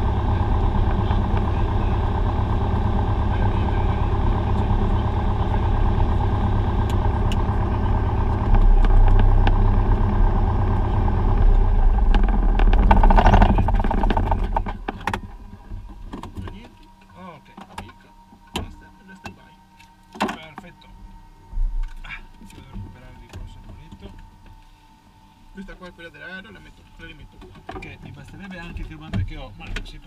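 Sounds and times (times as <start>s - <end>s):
propeller winding down: 0.0s - 29.6s
piston aircraft engine idling: 0.0s - 30.0s.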